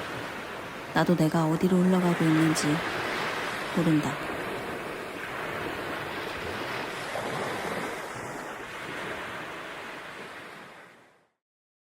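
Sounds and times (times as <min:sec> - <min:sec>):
ocean waves washing: 0:00.0 - 0:11.3.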